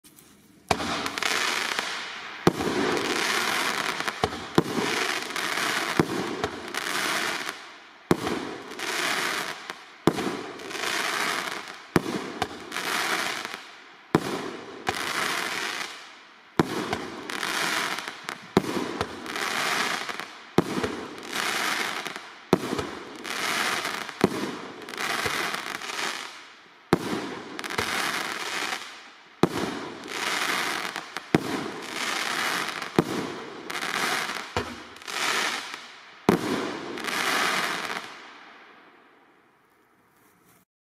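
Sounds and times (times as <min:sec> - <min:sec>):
firework shots: 0:00.7 - 0:13.6, 0:16.6 - 0:38.3.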